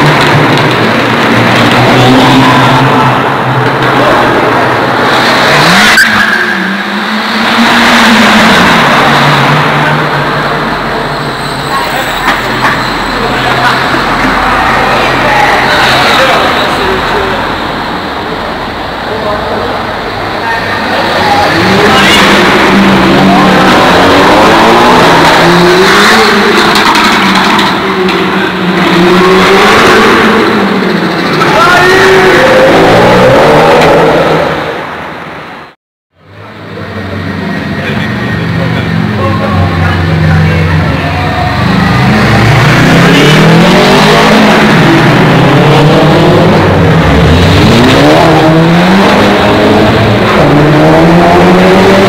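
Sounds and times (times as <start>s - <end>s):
cars accelerating hard: 0.0s - 52.0s.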